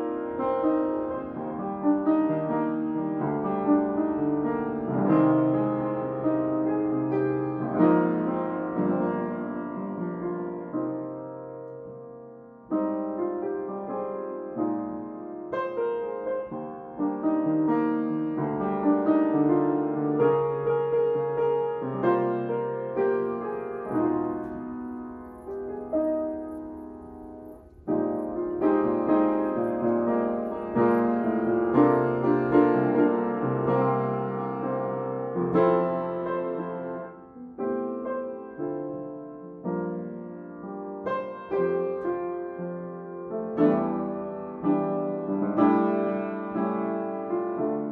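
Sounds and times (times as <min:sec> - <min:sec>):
piano music: 0:00.0 - 0:47.9.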